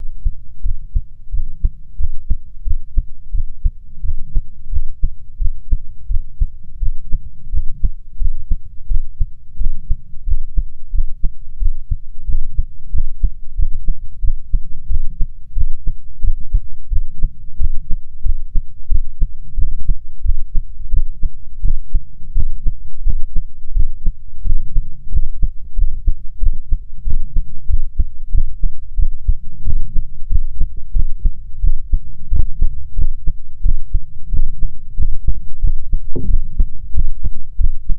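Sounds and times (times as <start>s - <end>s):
heartbeat through stethoscope: 0.0s - 37.9s
low rumble: 0.0s - 37.9s.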